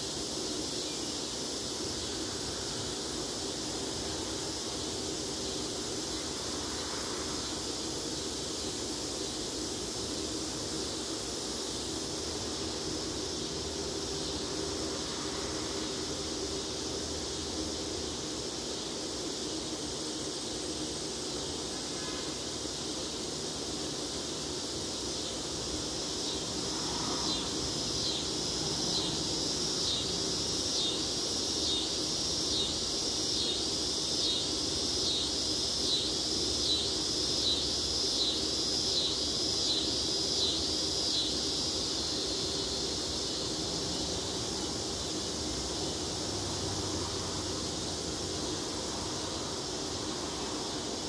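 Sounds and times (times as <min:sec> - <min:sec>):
high-pitched insect chorus: 0:00.0 - 0:51.0
insect pulsing call: 0:00.0 - 0:51.0.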